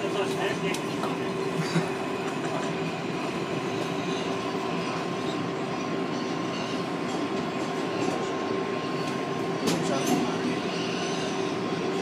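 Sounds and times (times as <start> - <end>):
rumble of train wheels on rails: 0.0 - 12.0.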